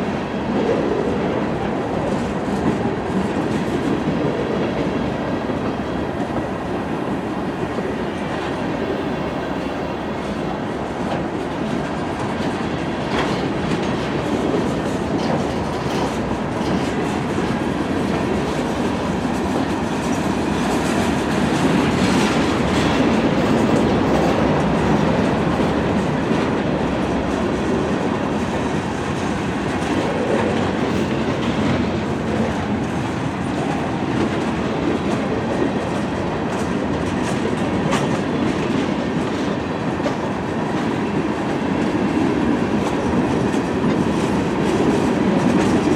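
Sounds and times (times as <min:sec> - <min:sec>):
freight train rumbling on rails: 0:00.0 - 0:45.9.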